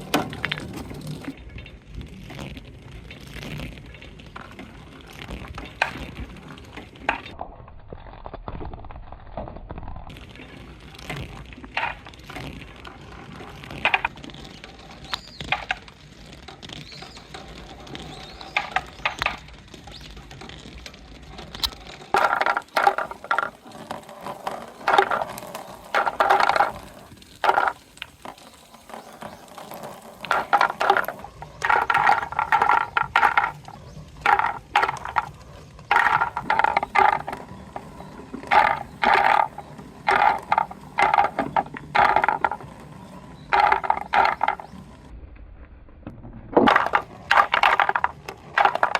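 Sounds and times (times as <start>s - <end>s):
plastic balls rattling through hose: 0.0s - 45.1s, 46.5s - 48.9s.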